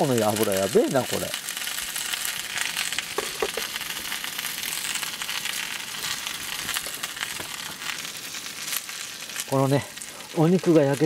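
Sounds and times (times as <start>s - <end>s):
fat crackling and popping: 0.0s - 11.0s
meat sizzling on a griddle: 0.0s - 11.0s.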